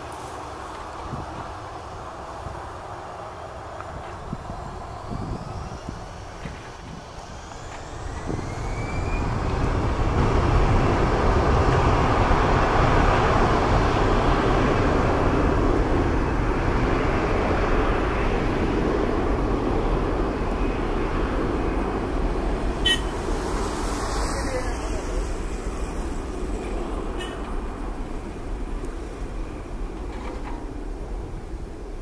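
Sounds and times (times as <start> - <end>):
jet engines spooling up: 0.0 - 32.0
jet roar on takeoff: 0.0 - 32.0.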